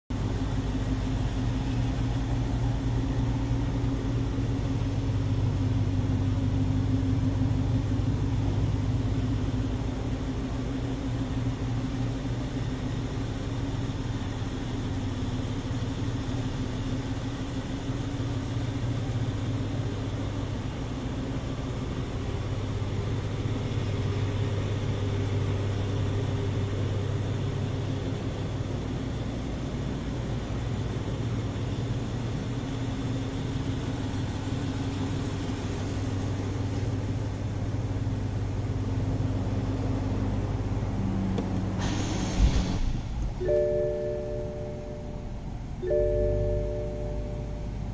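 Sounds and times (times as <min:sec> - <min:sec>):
car engine idling: 0:00.1 - 0:47.9.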